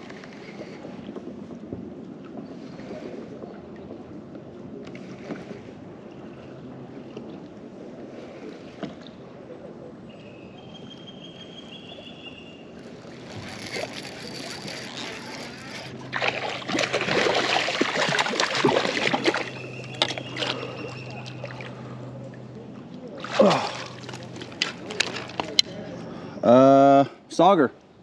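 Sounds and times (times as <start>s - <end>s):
paddle strokes splashing water: 0.0s - 10.3s, 11.0s - 25.6s.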